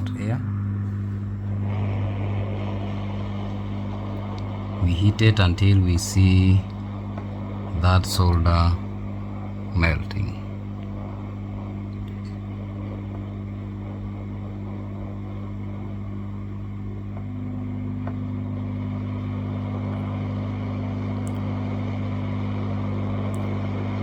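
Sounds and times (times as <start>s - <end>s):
hot air station fan hum: 0.0s - 24.0s.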